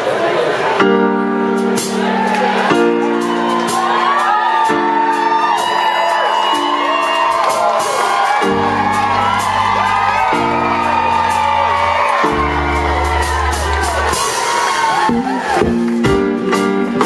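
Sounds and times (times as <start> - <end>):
band playing held chords: 0.8 - 17.0
crowd cheering and whooping: 1.8 - 16.1.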